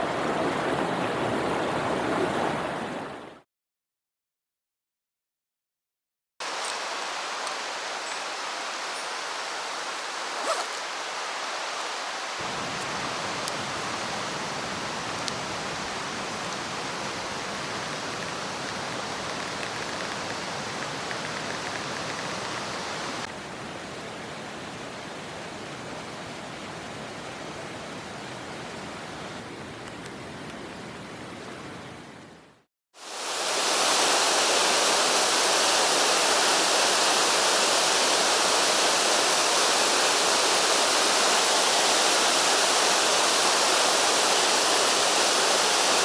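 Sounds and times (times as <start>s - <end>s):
stream water rushing: 0.0s - 3.2s, 6.4s - 27.9s, 33.0s - 46.0s.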